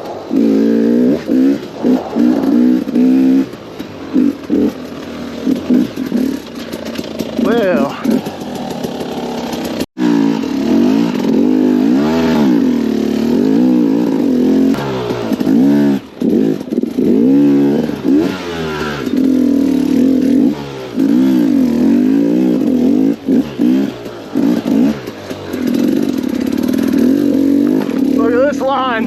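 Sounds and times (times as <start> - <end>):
two-stroke engine revving: 0.0 - 29.0.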